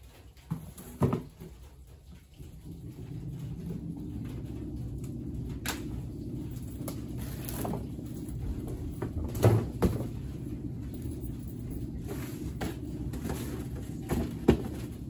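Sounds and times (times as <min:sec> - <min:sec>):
steady low hum: 0:02.3 - 0:15.0.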